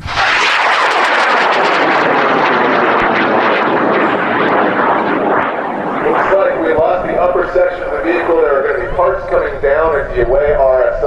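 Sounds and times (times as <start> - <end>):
rocket motor roaring: 0.0 - 11.0.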